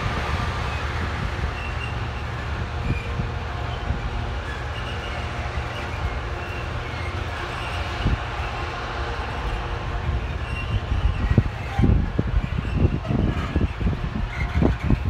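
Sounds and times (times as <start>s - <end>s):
diesel locomotive rumble: 0.0s - 15.0s
train wheels on rails: 0.0s - 15.0s.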